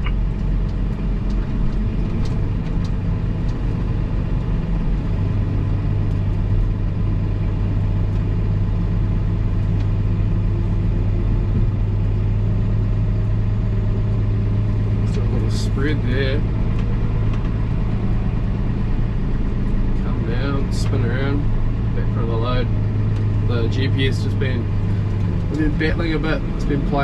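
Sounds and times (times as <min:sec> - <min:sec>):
tractor engine running under load: 0:00.0 - 0:27.0.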